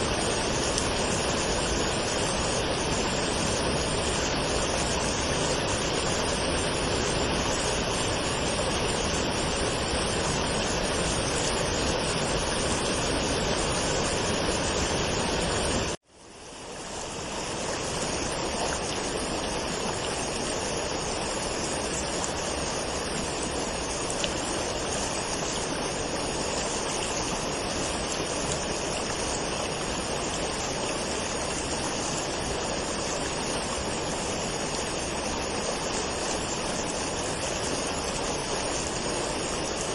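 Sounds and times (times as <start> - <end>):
waterfall rushing: 0.0 - 16.0, 16.7 - 39.9.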